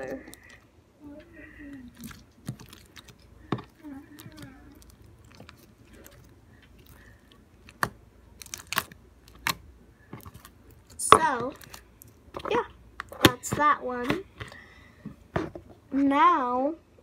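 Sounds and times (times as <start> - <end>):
slime squelching: 0.0 - 14.7.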